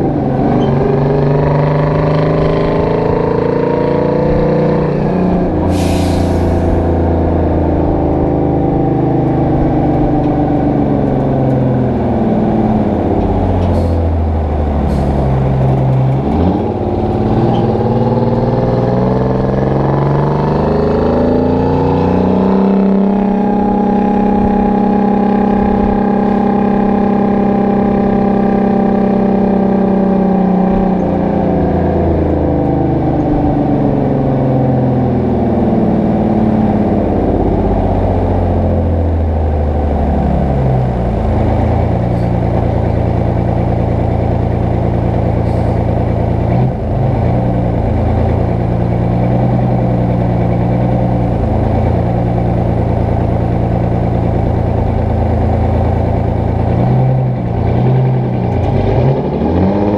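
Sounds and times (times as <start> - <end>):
truck diesel engine: 0.0 - 59.9.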